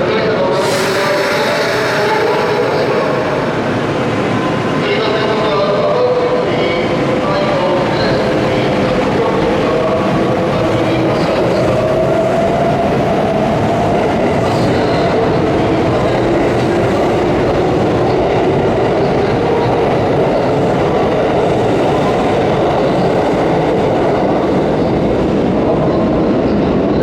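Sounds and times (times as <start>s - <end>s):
faint train whine: 0.0s - 27.0s.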